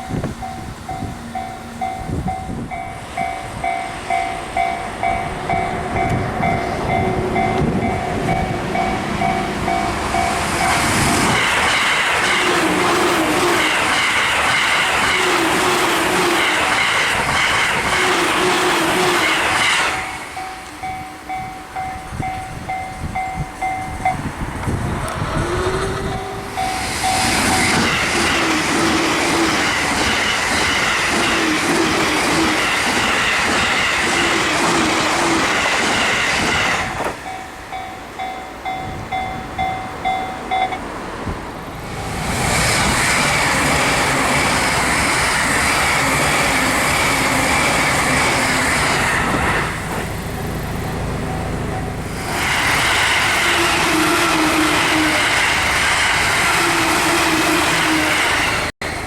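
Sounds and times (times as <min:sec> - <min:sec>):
crossing warning bell dinging: 0:00.0 - 0:59.0
trains rushing past: 0:00.0 - 0:59.0.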